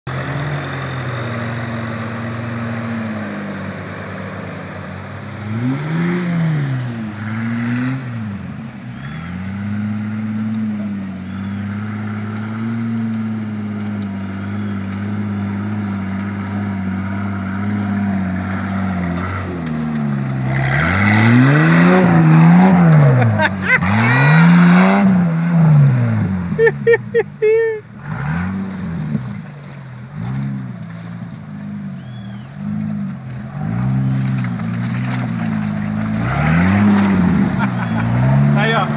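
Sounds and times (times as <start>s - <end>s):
engine running and revving: 0.1s - 38.9s.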